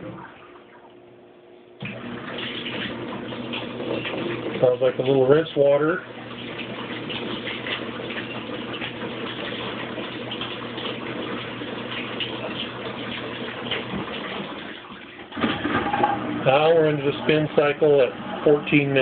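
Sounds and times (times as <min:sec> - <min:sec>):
water filling washing machine: 0:00.0 - 0:01.0, 0:01.8 - 0:19.0.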